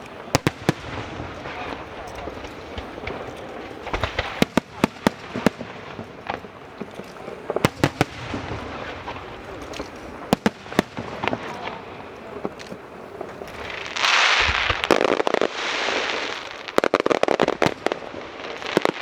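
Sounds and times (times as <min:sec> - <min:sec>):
fireworks bursting with sharp bangs: 0:00.0 - 0:19.0
steady background hiss: 0:00.0 - 0:19.0.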